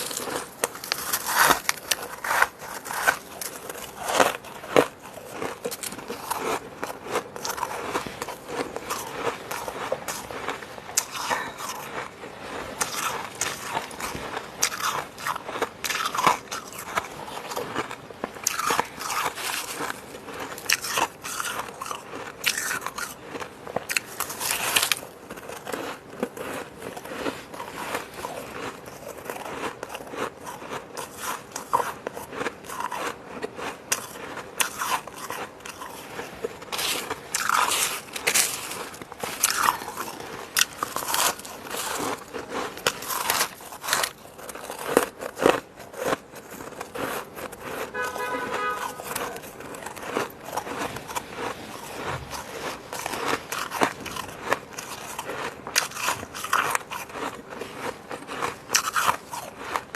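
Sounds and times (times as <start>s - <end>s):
chewing crunchy frost: 0.0s - 59.9s.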